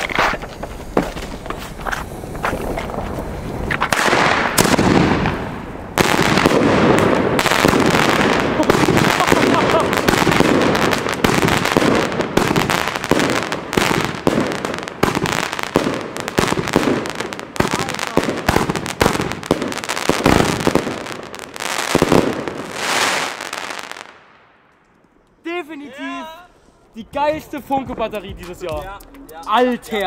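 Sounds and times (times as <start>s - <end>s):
firework bangs and crackling: 0.0s - 24.6s.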